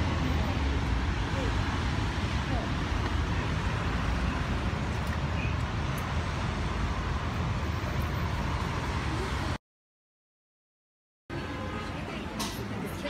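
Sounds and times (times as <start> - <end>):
street traffic rumble: 0.0 - 9.6, 11.3 - 13.0.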